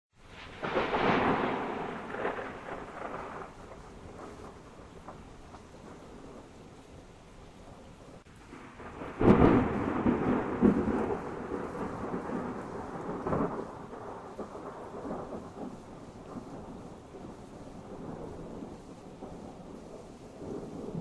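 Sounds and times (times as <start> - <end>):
rain hissing: 0.1 - 21.0
thunder clap rolling: 0.2 - 21.0.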